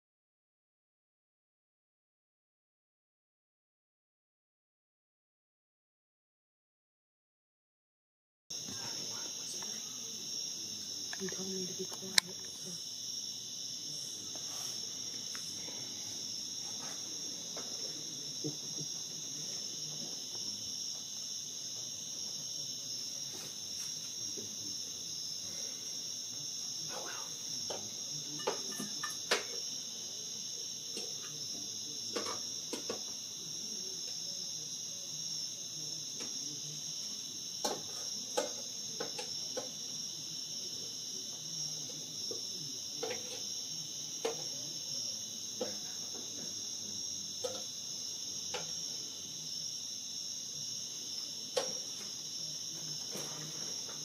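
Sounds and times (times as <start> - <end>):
insects shrilling: 8.5 - 54.0.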